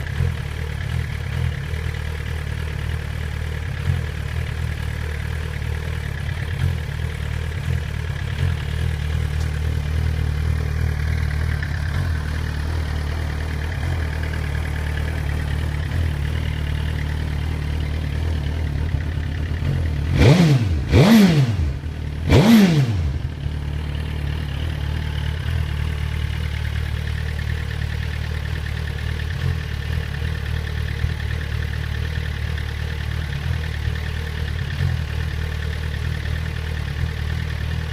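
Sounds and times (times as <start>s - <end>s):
motorcycle engine rough idle: 0.0s - 37.9s
motorcycle throttle blips: 0.0s - 37.9s.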